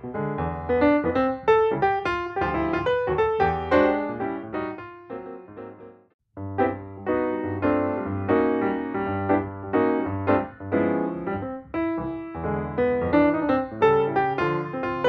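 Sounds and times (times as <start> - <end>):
bouncy piano music: 0.0 - 15.0.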